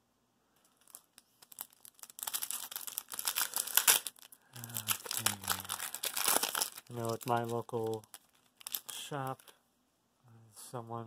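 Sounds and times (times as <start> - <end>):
foil wrapper crinkling: 0.7 - 9.6.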